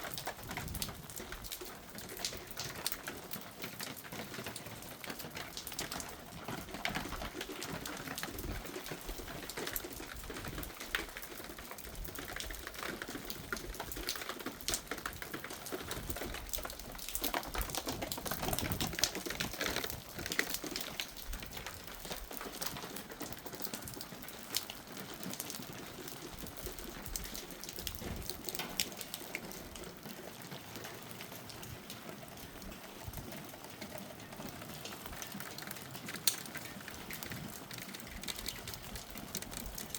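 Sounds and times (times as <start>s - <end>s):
hail pattering on hard surfaces: 0.0s - 39.9s.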